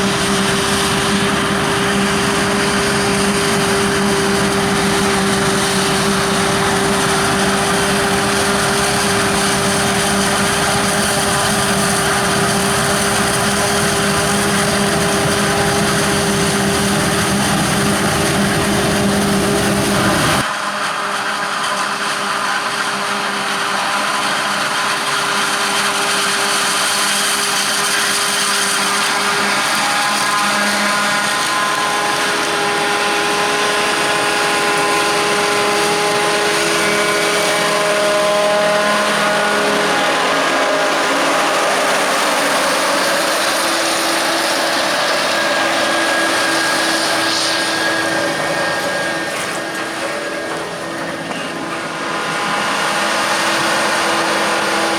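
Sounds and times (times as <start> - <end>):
harvesting machinery rumbling: 0.0 - 20.4, 26.4 - 54.9
mechanical whine: 0.0 - 54.9.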